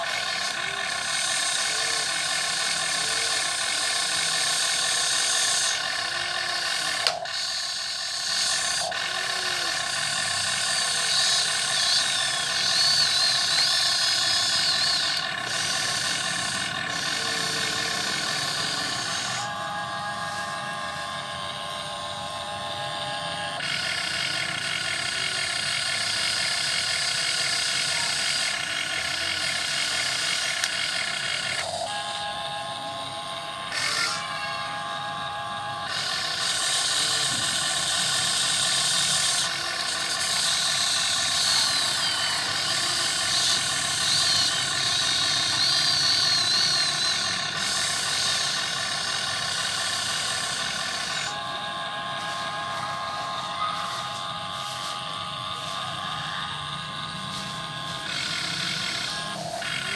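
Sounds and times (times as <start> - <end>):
electric motors and gears whining: 0.0 - 59.9.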